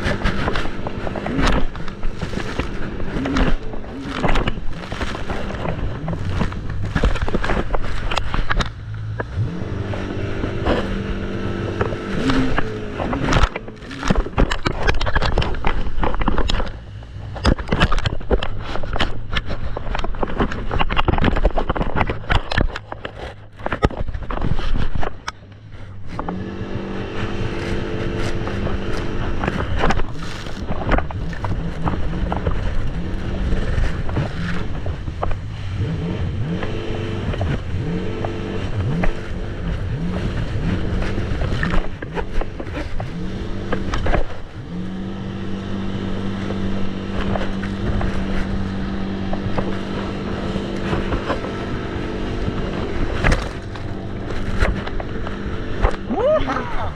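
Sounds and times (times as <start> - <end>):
jet ski engine: 0.0 - 56.9.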